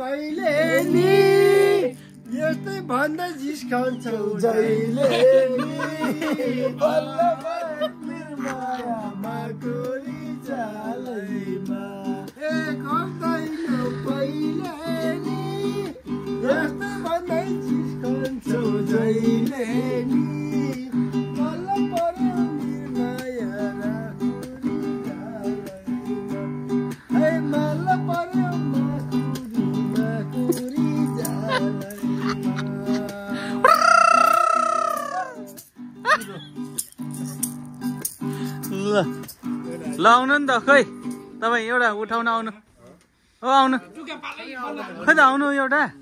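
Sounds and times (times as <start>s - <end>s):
strummed acoustic guitar folk tune: 0.0s - 41.7s.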